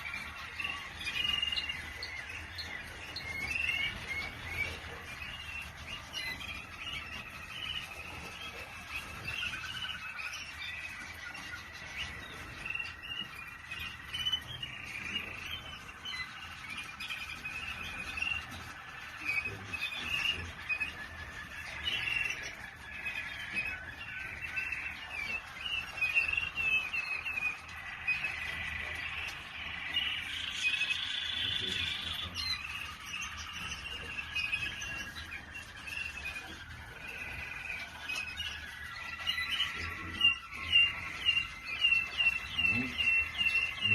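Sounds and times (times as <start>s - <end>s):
canaries singing trills: 0.0s - 43.9s.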